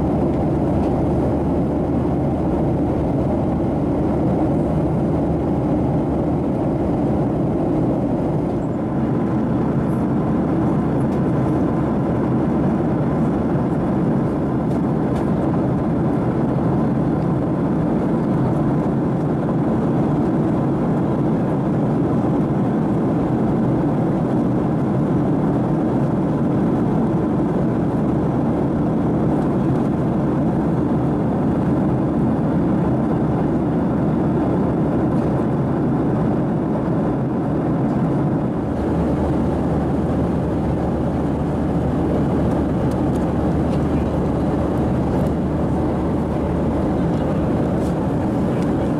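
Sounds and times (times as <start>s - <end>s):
airplane cabin engine and airflow noise: 0.0s - 48.9s.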